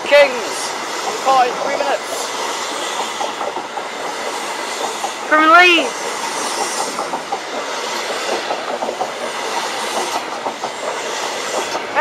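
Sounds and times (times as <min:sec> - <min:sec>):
train coaches rushing past: 0:00.0 - 0:12.0
wheels clicking over rail joints: 0:00.0 - 0:12.0.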